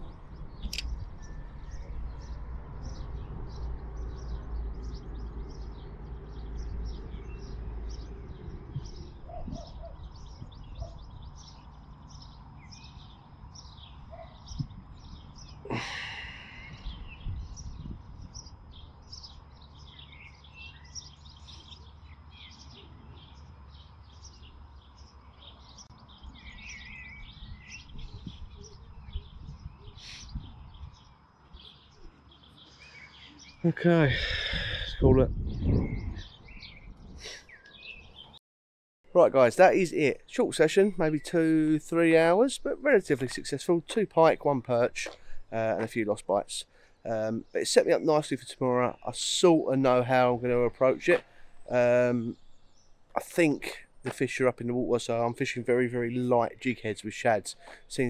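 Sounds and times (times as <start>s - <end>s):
small birds chirping: 0.0s - 38.4s, 39.1s - 58.0s.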